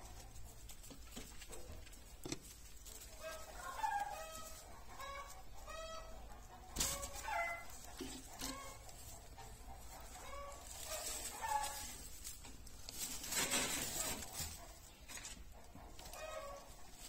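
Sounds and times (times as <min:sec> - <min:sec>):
hay rustling: 0:00.0 - 0:17.0.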